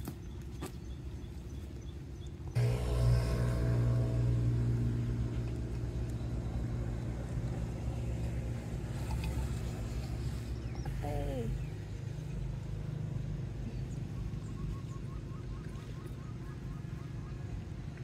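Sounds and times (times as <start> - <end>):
motor engine running: 2.5 - 18.0.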